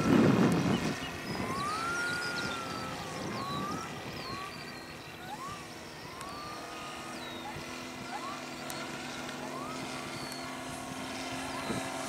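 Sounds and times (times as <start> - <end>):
model plane engine running: 0.0 - 12.0
whistled pitch glides: 0.0 - 12.0.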